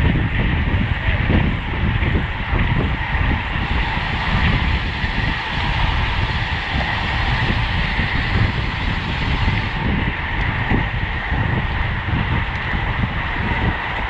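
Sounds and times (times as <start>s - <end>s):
road noise hiss: 0.0s - 14.0s
wind gusting over microphone: 0.0s - 14.0s.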